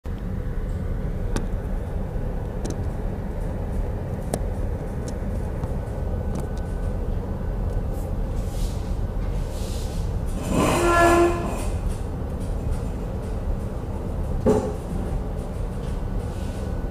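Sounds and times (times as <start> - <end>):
ship engines rumbling: 0.1 - 16.9.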